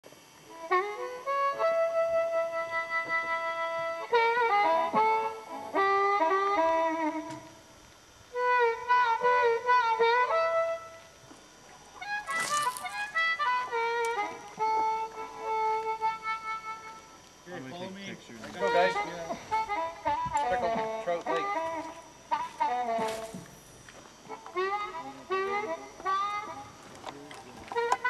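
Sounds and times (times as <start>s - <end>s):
instrumental melody: 0.4s - 28.0s.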